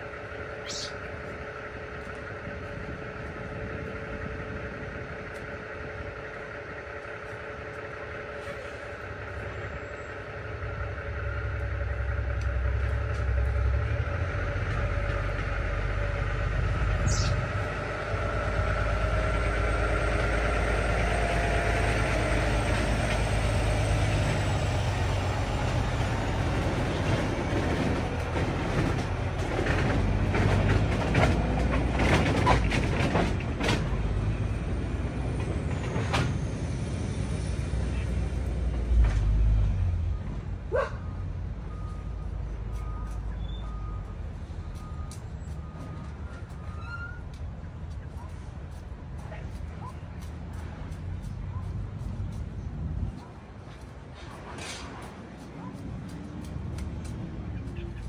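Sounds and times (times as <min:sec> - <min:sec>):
low vehicle rumble: 0:00.0 - 0:58.0.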